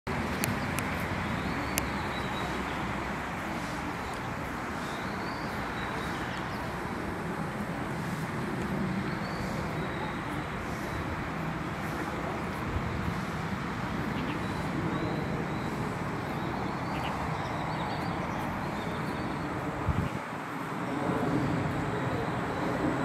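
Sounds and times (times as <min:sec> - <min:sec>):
distant road traffic: 0:00.1 - 0:23.0.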